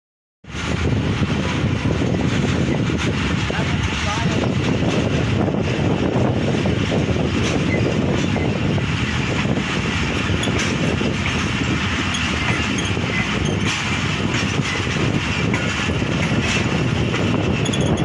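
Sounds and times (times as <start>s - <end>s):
rushing air: 0.4s - 18.0s
train wheels rumbling on rail: 0.4s - 18.0s.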